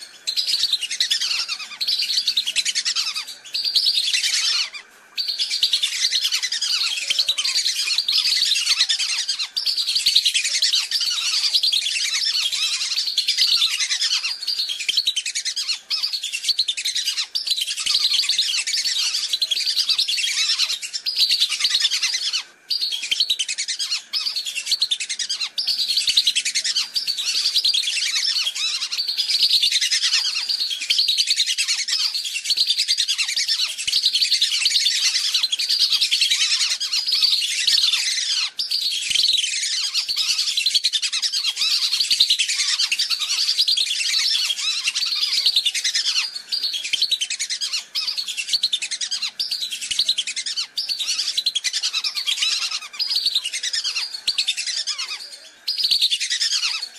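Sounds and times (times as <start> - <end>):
whistling ducks calling: 0.0 - 56.9.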